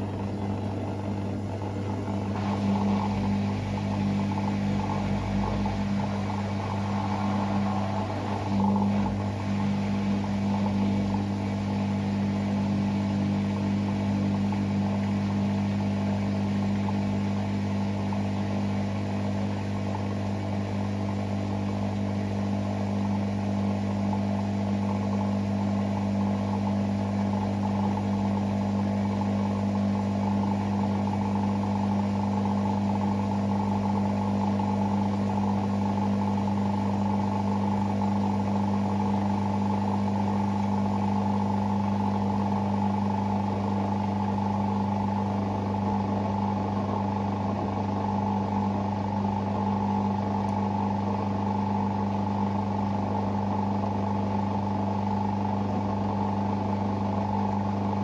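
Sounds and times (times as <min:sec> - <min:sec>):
washing machine hum and whine: 0:00.0 - 0:58.0.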